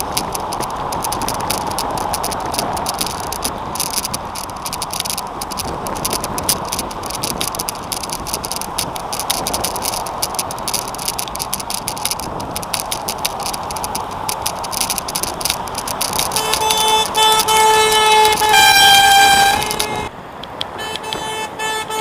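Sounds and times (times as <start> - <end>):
shell rattling: 0.0 - 18.6.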